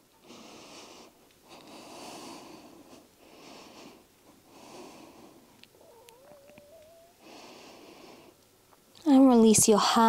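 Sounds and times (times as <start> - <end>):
soft breathing: 0.1 - 8.4.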